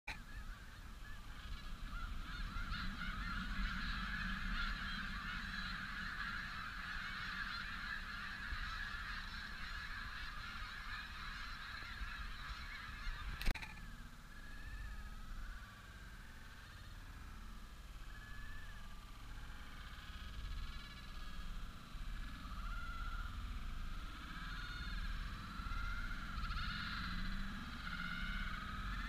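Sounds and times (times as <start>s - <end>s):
snow geese honking: 0.1s - 29.0s.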